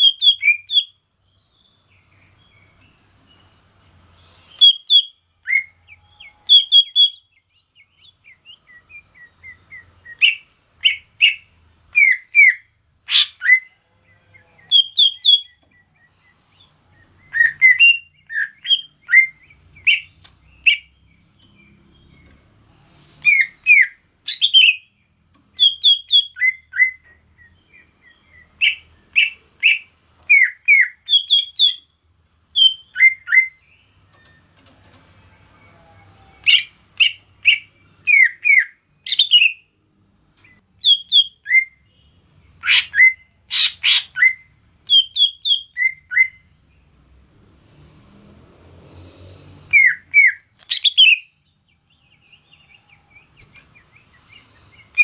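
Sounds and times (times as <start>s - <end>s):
bird chirping: 0.0s - 47.0s, 49.0s - 55.0s.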